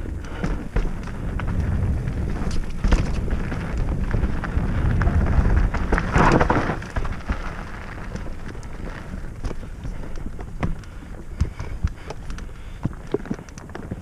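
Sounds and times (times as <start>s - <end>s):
bike tyres crunching over dirt: 0.0s - 14.0s
wind rumble on microphone: 0.0s - 14.0s.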